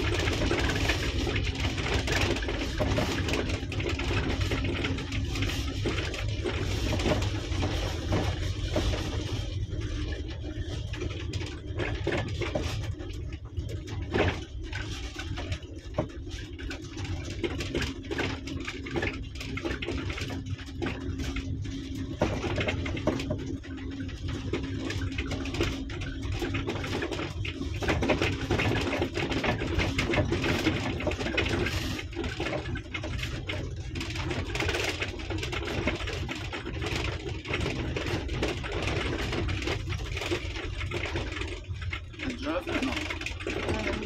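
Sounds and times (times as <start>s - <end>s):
car engine and tyre rumble: 0.0s - 44.0s
clicks and knocks from rough road: 0.0s - 44.0s
constant hum: 0.0s - 44.0s.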